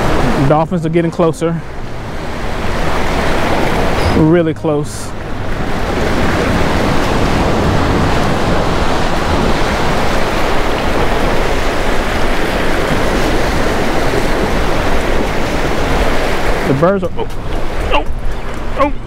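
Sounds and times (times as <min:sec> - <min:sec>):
small waves breaking on rocks: 0:00.0 - 0:18.9.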